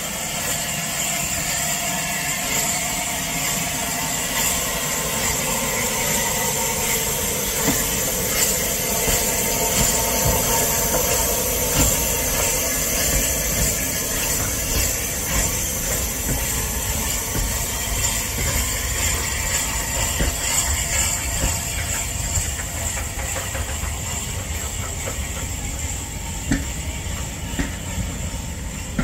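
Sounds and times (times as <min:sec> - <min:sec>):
steam locomotive hissing: 0:00.0 - 0:29.0.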